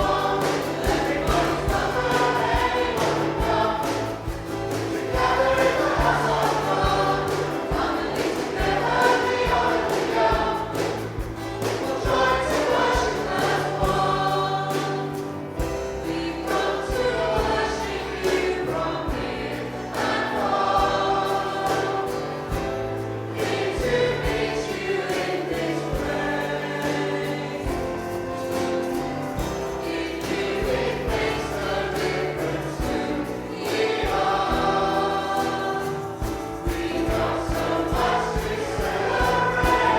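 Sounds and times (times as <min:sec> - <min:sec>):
group singing: 0:00.0 - 0:39.9
instrumental backing: 0:00.0 - 0:39.9.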